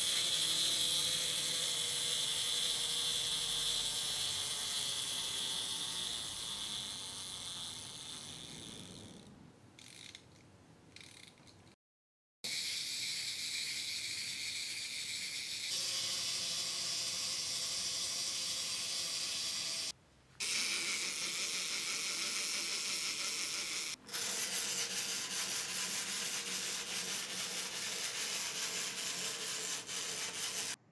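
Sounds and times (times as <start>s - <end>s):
wind-up toy motor whirring: 0.0s - 10.3s, 11.0s - 11.6s, 12.5s - 30.8s.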